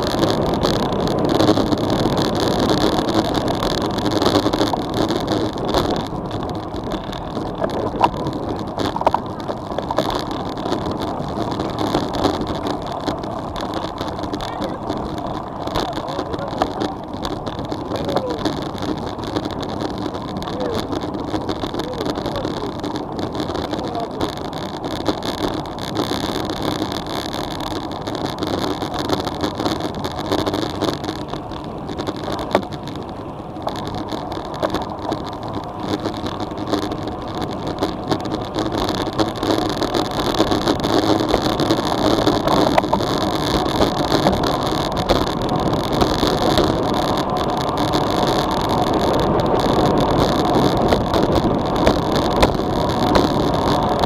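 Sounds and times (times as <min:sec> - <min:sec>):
bicycle tyre noise: 0:00.0 - 0:54.0.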